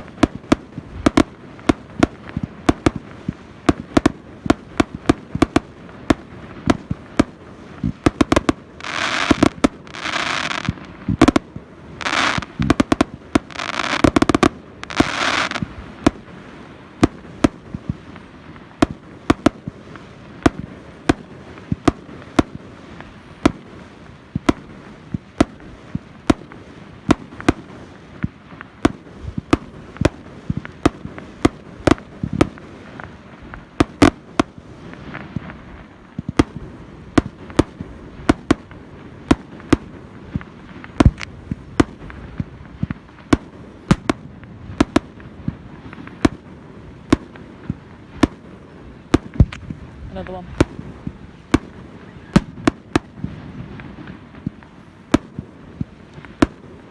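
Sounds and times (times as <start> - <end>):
fireworks bangs: 0.0 - 56.9
fireworks hissing crackling bursts: 0.0 - 56.9.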